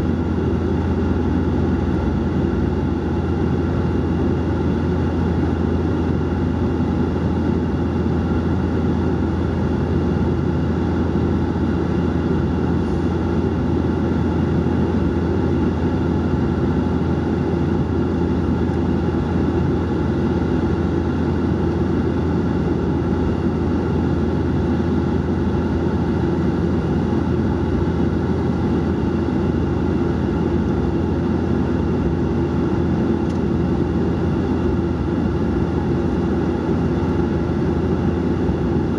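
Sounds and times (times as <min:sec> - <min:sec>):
airliner cabin propeller drone: 0:00.0 - 0:38.9.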